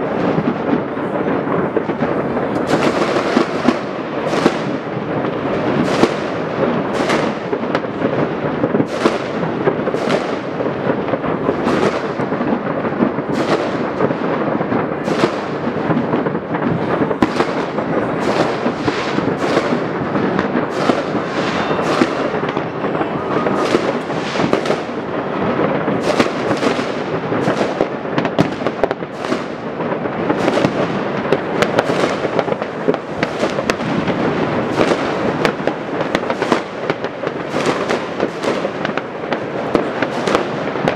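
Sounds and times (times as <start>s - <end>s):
fireworks and firecrackers banging: 0.0s - 40.9s.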